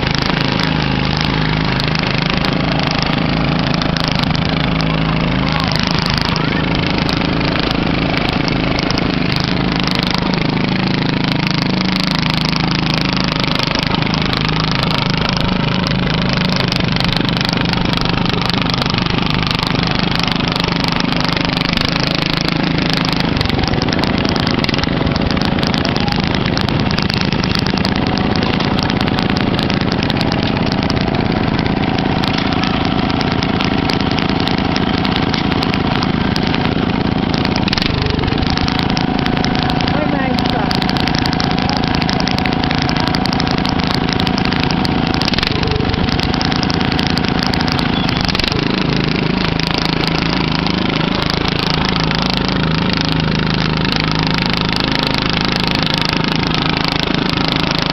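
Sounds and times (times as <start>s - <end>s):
riding lawn mower engines: 0.0s - 57.9s.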